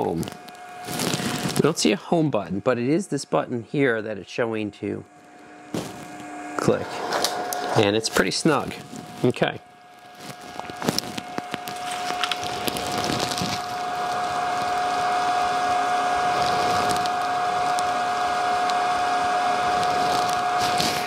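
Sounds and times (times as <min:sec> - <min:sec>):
stepper motor whine: 0:00.0 - 0:03.0, 0:04.8 - 0:21.0.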